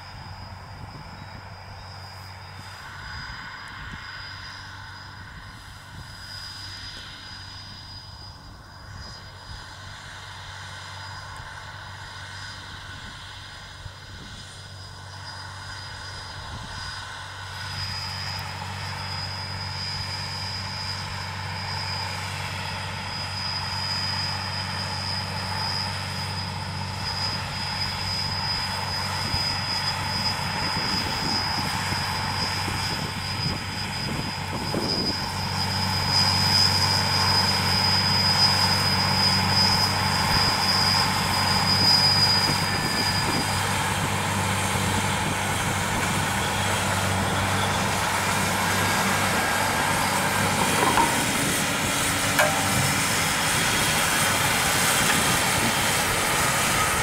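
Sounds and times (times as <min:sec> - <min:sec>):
high steady whine: 0:00.0 - 0:57.0
tractor diesel engine running: 0:00.0 - 0:57.0.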